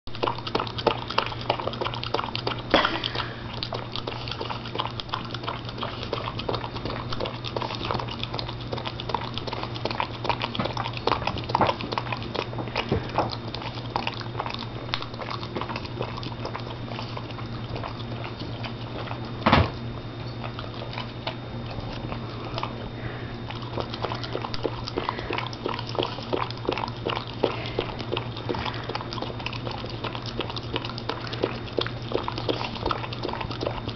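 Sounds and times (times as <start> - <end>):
dog licking and smacking lips: 0.1 - 33.9.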